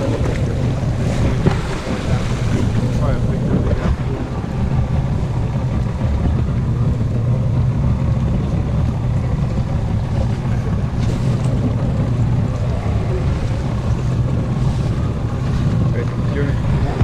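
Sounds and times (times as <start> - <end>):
boat engine droning: 0.0 - 17.0
wind buffeting microphone: 0.0 - 17.0.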